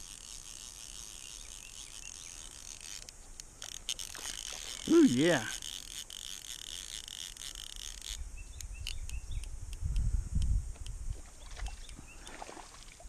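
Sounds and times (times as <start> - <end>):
steady high buzz: 0.0 - 12.2.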